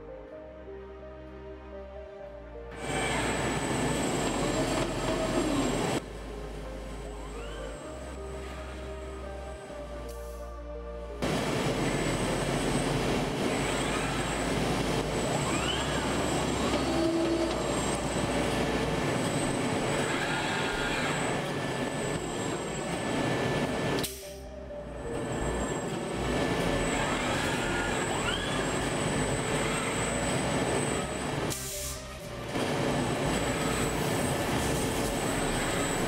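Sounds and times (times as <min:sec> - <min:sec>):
rising and falling machine whines: 0:02.7 - 0:09.7, 0:11.2 - 0:36.0
machine shop din: 0:02.7 - 0:10.4, 0:11.2 - 0:36.0.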